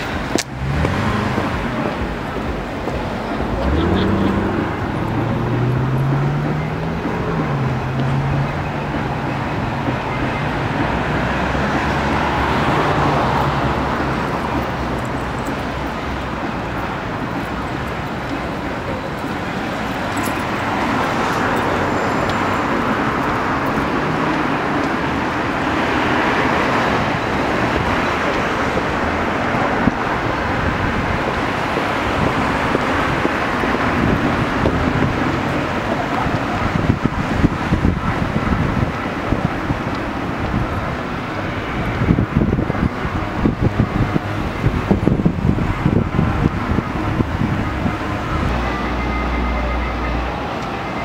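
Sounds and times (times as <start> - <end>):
cars passing: 0.0 - 51.0.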